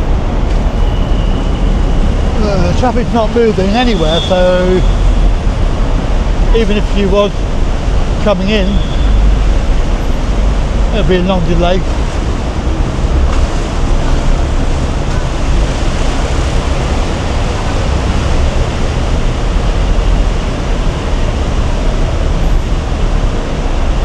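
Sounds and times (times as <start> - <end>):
busy road traffic roar: 0.0 - 24.0.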